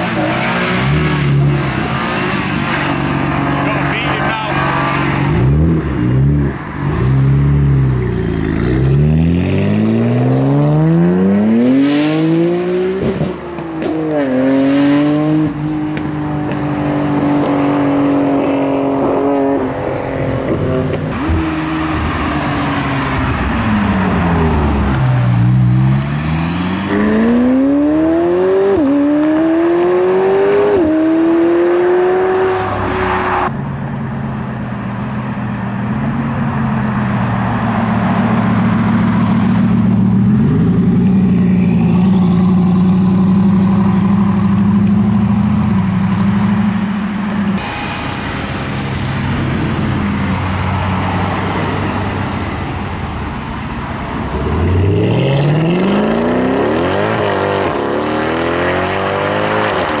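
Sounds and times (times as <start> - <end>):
car engines accelerating hard: 0.0 - 60.0.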